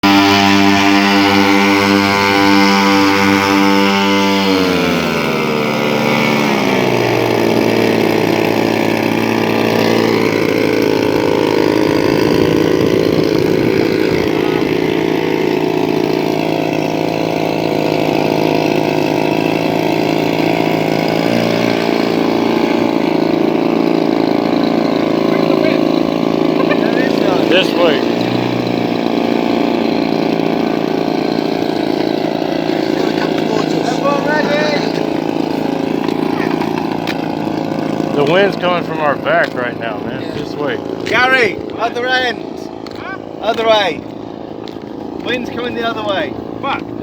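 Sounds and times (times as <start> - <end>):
model airplane engines: 0.0 - 47.0.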